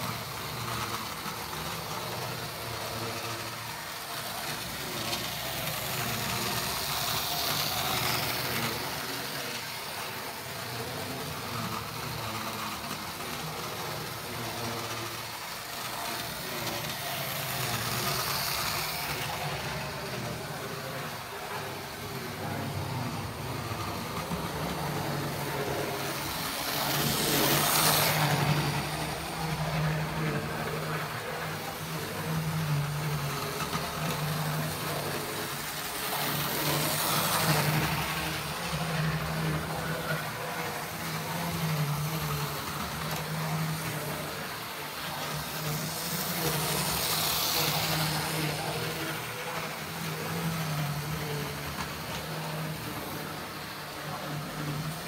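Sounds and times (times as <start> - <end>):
model train motor hum: 0.0 - 55.0
model train wheels on track: 0.0 - 55.0.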